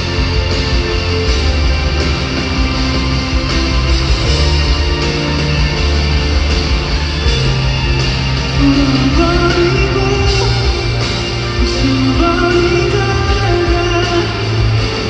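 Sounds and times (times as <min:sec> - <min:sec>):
live pop-rock band: 0:00.0 - 0:15.0.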